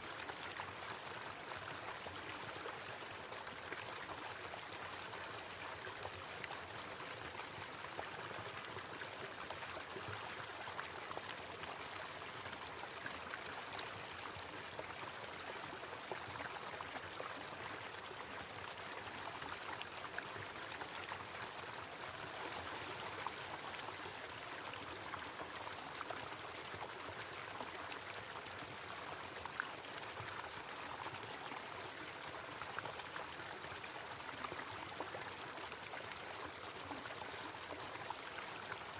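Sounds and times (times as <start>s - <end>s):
small waterfall over rocks: 0.0s - 38.9s.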